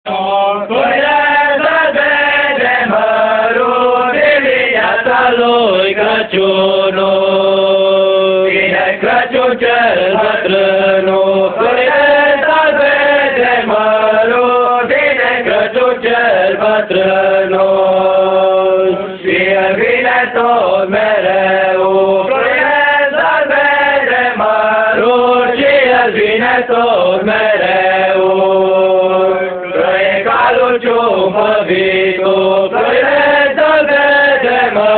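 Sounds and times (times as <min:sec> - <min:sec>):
boys singing a carol: 0:00.1 - 0:34.9.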